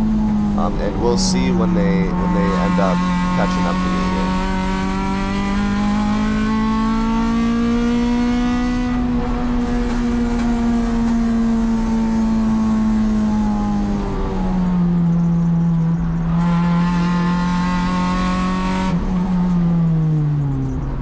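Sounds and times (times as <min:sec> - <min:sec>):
car engine revving from inside: 0:00.0 - 0:21.0.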